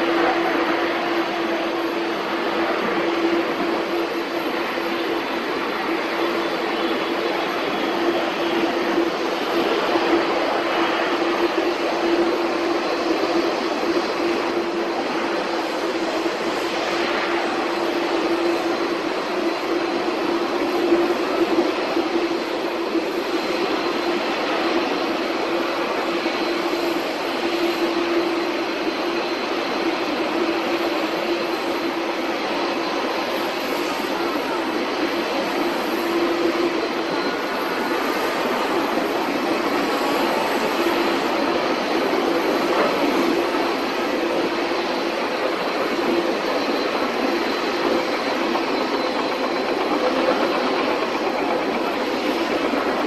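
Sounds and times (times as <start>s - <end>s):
jet engines running: 0.0s - 53.0s.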